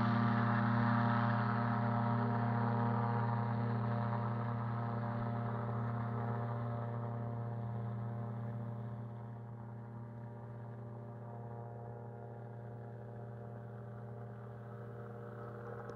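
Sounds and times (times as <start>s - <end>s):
microlight engine drone: 0.0s - 15.9s.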